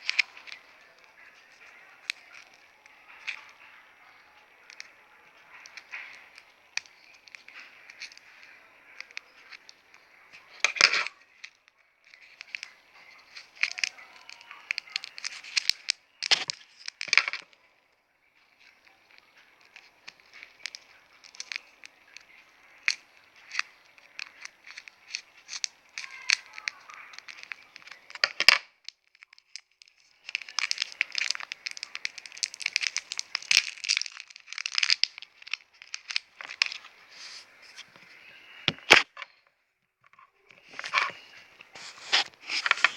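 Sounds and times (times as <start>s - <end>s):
sharp snaps: 0.0s - 17.6s, 18.4s - 39.3s
play dough packaging crinkling: 0.0s - 39.4s, 40.1s - 42.9s.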